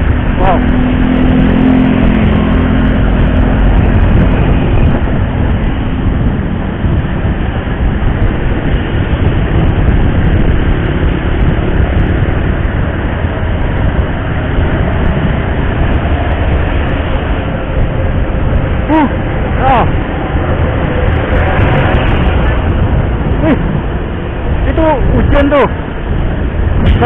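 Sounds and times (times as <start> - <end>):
motorcycle engine running: 0.0 - 24.6
faint engine hum: 0.0 - 27.0
wind and road noise: 0.0 - 27.0.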